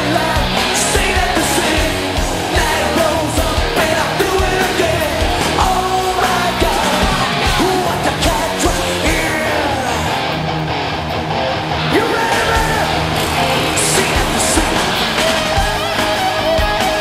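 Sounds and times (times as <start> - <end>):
man singing lead vocal: 0.0 - 10.4, 11.9 - 16.0
distorted electric guitars: 0.0 - 17.0
drums: 0.0 - 17.0.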